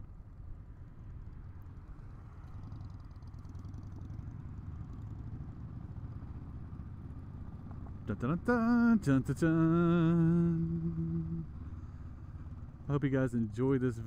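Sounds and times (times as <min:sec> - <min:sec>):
motorcycle engine rumbling: 0:00.0 - 0:14.0
wind and road noise: 0:00.0 - 0:14.0.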